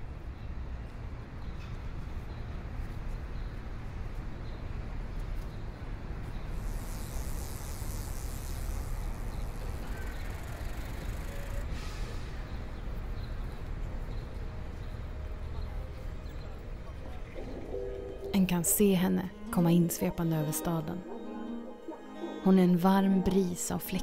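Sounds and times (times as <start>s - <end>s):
low rumble of city noise: 0.0s - 24.0s.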